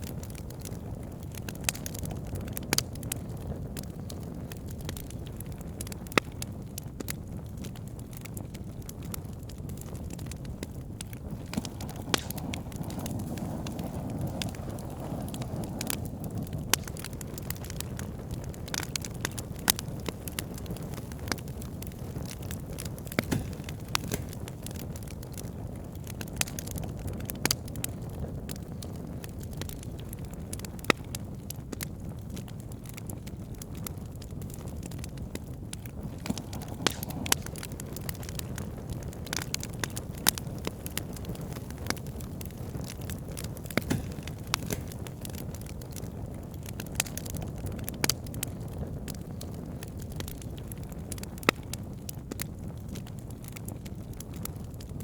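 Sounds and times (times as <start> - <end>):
fire crackling and popping: 0.0 - 55.0
fire rushing: 0.1 - 31.4, 32.1 - 55.0.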